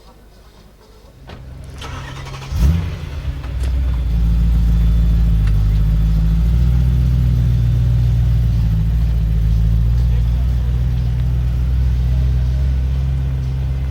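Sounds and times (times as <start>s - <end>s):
sports car engine starting and idling: 1.1s - 13.9s.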